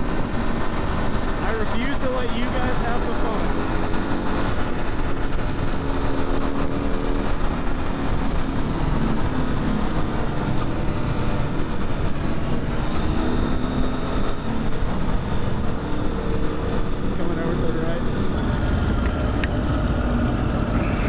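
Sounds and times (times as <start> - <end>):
motorcycle engine running: 0.0 - 21.0
wind noise: 0.0 - 21.0.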